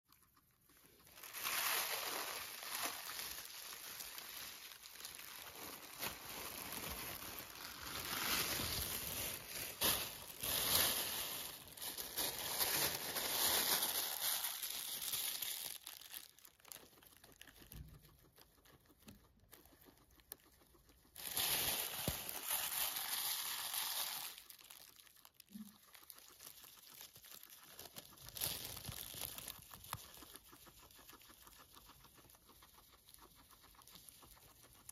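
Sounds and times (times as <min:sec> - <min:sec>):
plastic bag crinkling: 0:00.8 - 0:17.9, 0:21.0 - 0:32.4.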